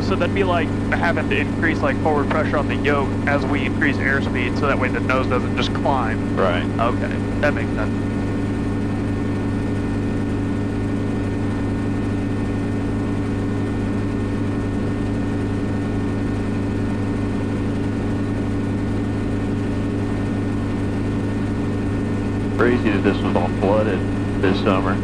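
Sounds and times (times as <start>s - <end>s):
helicopter engine and rotors droning: 0.0s - 25.0s.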